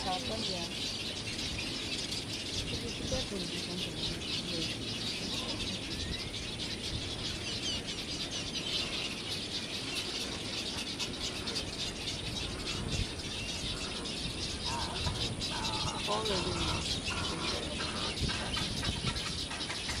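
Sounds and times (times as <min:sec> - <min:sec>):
birds chattering and chirping: 0:00.0 - 0:20.0.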